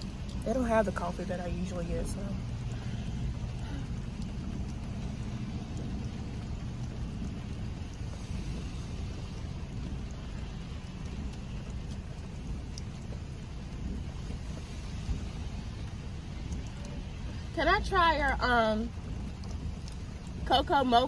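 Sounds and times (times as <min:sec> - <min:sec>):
car engine idling: 0:00.0 - 0:21.0
rain falling on a car: 0:00.0 - 0:21.0.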